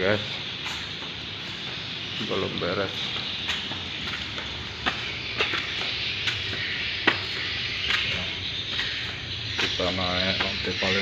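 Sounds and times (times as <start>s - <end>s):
footsteps in sandals on concrete: 0.0s - 11.0s
steady hiss: 0.0s - 11.0s.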